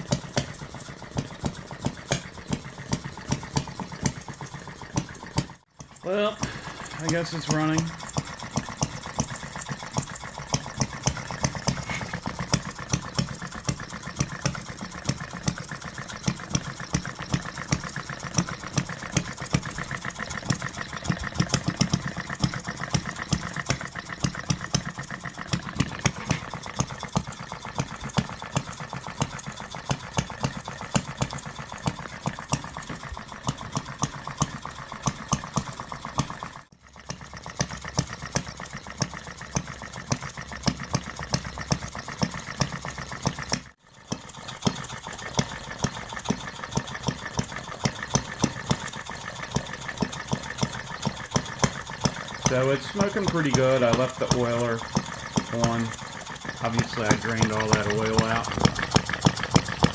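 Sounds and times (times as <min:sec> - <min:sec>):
model engine firing with sharp pops: 0:00.0 - 0:59.9.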